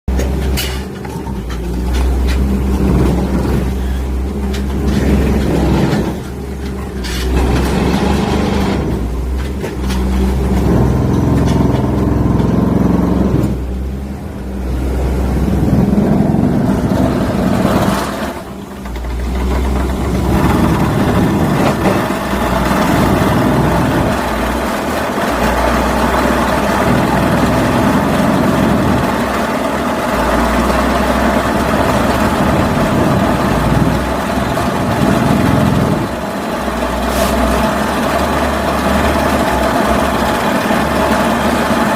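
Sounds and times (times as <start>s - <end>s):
heavy diesel engine running: 0.1s - 41.9s.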